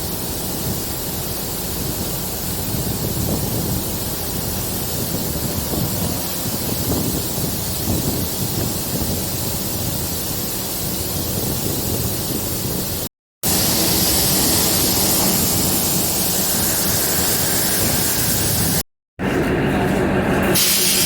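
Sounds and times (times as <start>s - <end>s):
rushing wind hiss: 0.0s - 18.8s
train rumble on board: 0.0s - 21.0s.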